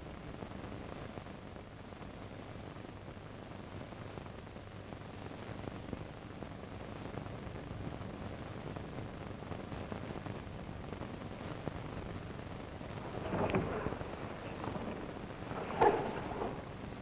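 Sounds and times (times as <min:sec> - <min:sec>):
old film soundtrack hiss and crackle: 0:00.0 - 0:17.0.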